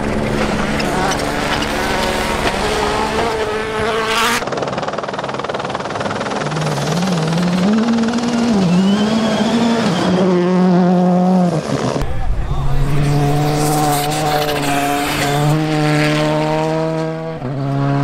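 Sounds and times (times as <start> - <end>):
rally car engine revving: 0.0 - 4.4, 6.3 - 18.0.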